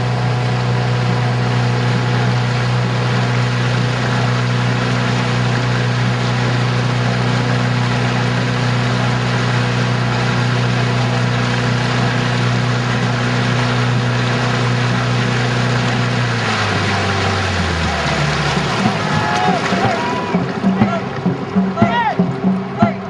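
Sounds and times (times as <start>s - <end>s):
engine droning steadily: 0.0s - 23.0s.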